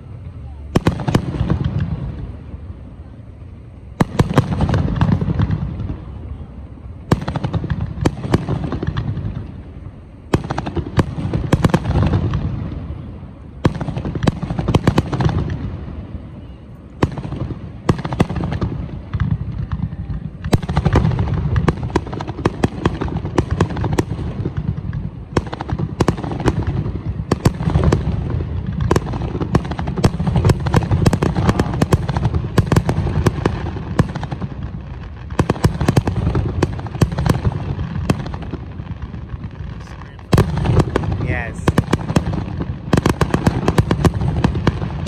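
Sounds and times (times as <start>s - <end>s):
fireworks bangs and crackling: 0.0s - 45.0s.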